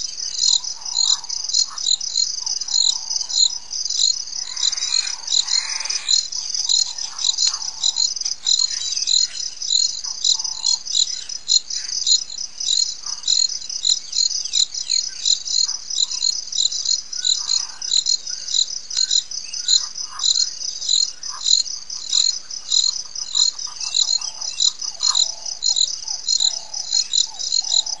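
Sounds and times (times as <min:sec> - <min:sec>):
faint bird calls: 0:00.0 - 0:12.2, 0:17.1 - 0:28.0
insect chirping: 0:00.0 - 0:28.0.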